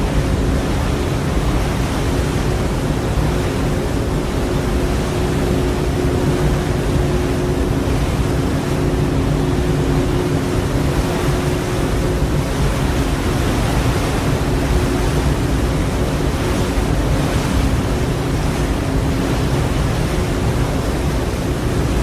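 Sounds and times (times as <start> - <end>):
low even rumble: 0.0 - 22.0
sea waves rushing: 0.0 - 22.0
wind: 0.0 - 22.0.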